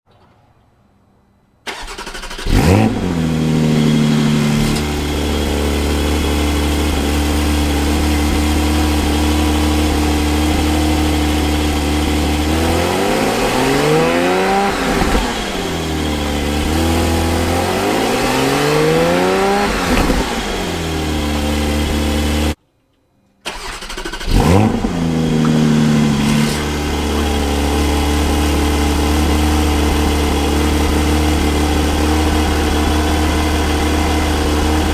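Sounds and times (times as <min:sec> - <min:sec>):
sports car engine revving and idling: 0:02.4 - 0:22.6, 0:24.2 - 0:34.9.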